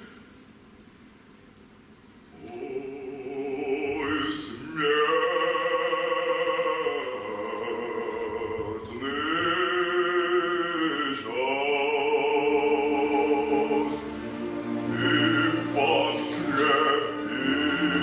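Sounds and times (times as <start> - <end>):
male opera singer: 2.4 - 14.2, 14.8 - 18.0
string orchestra: 2.9 - 18.0.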